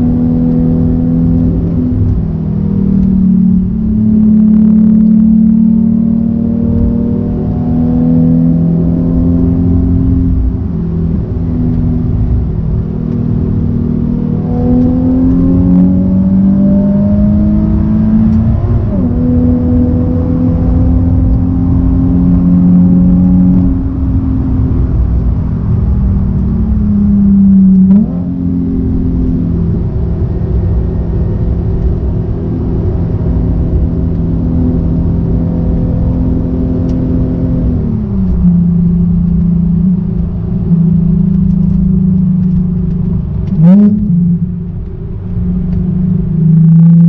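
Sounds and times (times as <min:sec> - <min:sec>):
car engine revving in cabin: 0:00.0 - 0:47.0.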